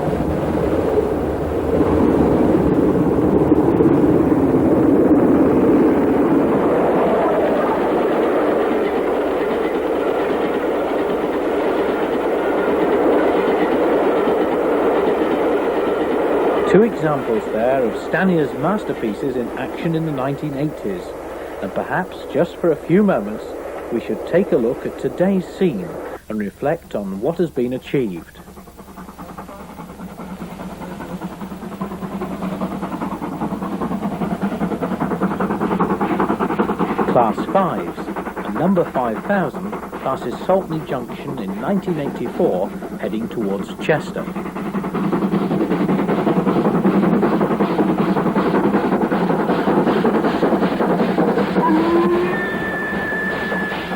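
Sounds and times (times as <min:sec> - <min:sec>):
steam train running: 0:00.0 - 0:53.9.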